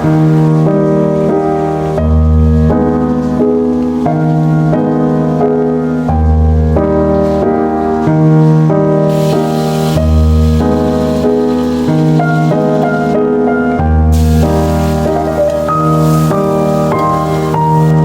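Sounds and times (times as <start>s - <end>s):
gentle piano tune: 0.0s - 18.0s.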